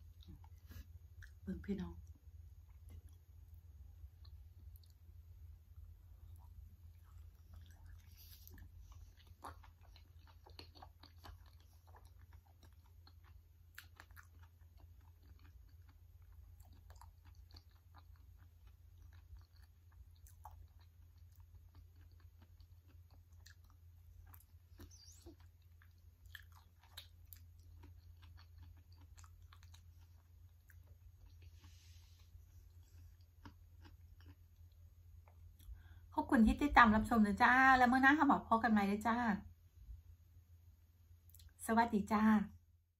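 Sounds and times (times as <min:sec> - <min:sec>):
soft wet chewing: 0:00.0 - 0:36.7, 0:41.2 - 0:41.6.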